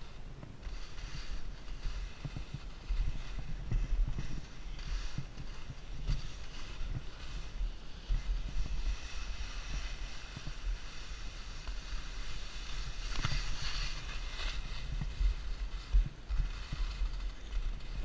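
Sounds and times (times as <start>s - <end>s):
skis sliding over snow: 0.0s - 18.0s
wind buffeting microphone: 0.0s - 18.0s.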